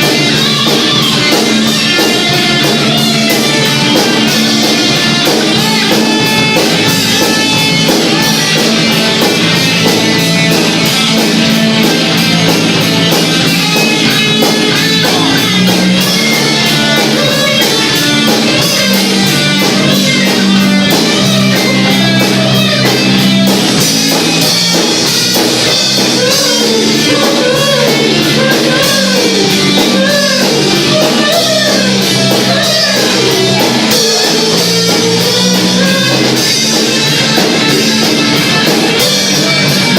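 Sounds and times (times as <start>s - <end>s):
rock music with guitar and drums: 0.0s - 39.9s.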